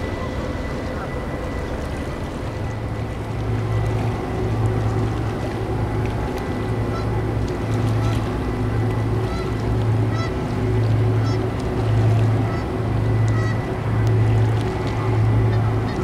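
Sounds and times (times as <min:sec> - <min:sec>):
diesel engines droning: 0:00.0 - 0:16.0.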